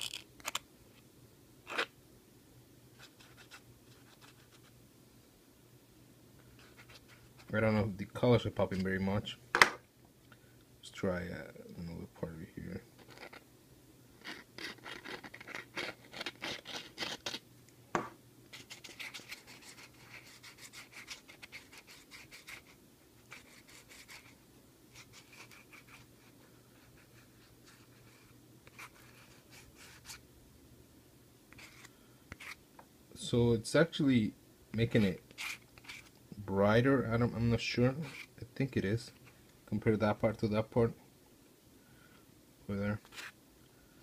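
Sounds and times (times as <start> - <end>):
faint fan hum: 0.0 - 44.0.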